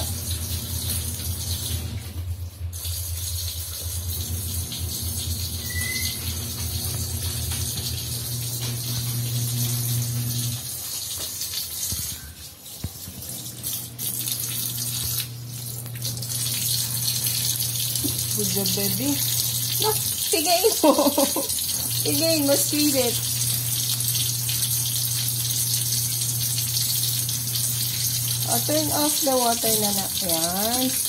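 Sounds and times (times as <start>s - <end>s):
water running into a steel sink: 0.0s - 31.0s.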